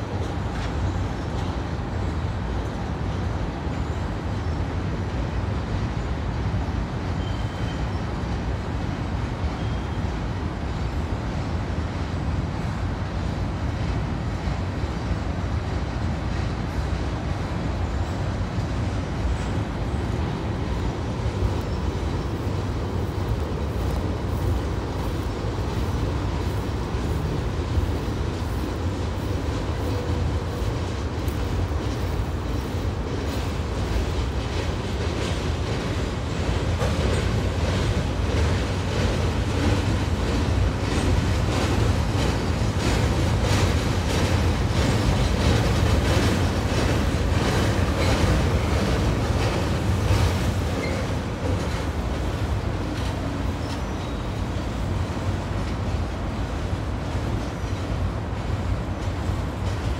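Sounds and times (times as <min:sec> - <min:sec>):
freight cars rumbling on bridge: 0:00.0 - 0:59.9.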